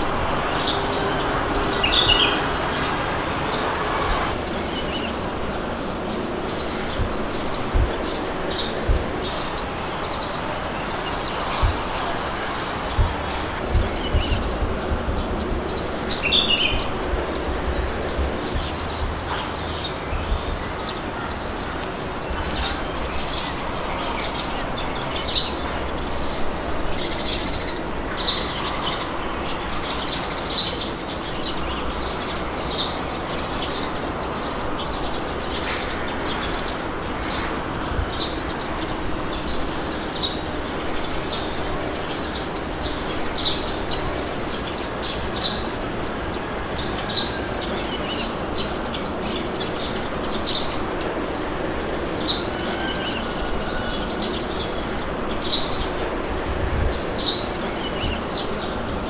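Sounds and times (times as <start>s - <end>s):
small birds chirping: 0.0s - 59.0s
wind blowing with low rumble: 0.0s - 59.0s.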